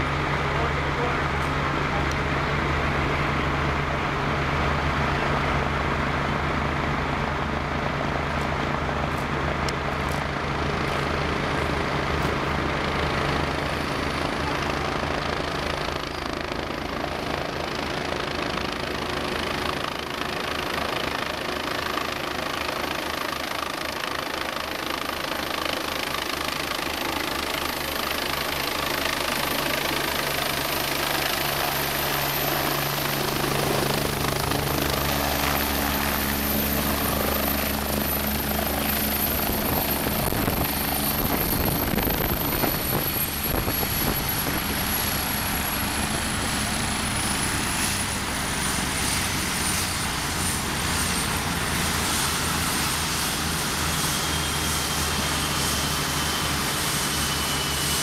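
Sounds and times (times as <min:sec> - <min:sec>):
idling ambulance engine hum: 0:00.0 - 0:48.9
helicopter rotor beat: 0:00.0 - 0:58.0.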